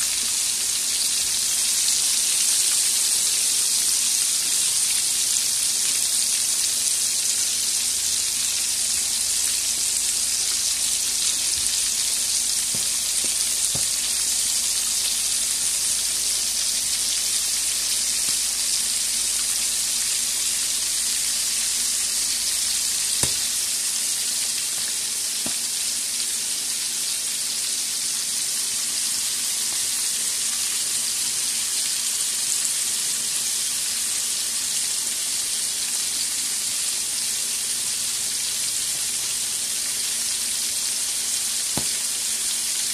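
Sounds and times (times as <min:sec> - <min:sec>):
fish sizzling in oil: 0:00.0 - 0:42.9.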